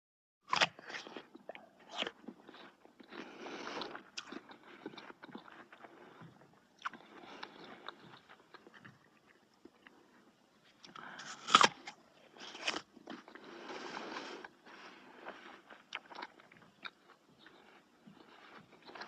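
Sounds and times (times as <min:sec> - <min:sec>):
crunchy food biting and chewing: 0:00.5 - 0:19.0.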